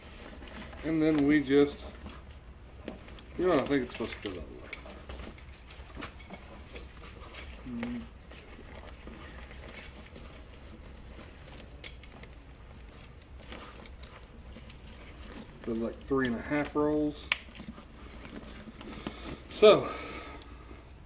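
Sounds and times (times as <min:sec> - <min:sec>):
fabric rustling and crinkling: 0:00.0 - 0:19.9.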